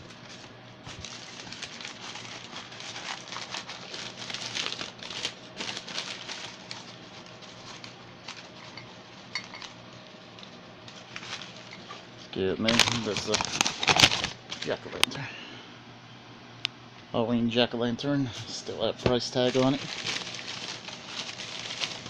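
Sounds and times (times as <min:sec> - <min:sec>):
packaging crinkling: 0:00.1 - 0:15.0, 0:19.3 - 0:22.0.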